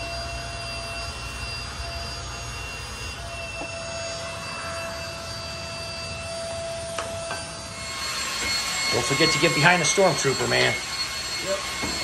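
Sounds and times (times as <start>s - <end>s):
vacuum cleaner motor running: 0.0s - 12.0s.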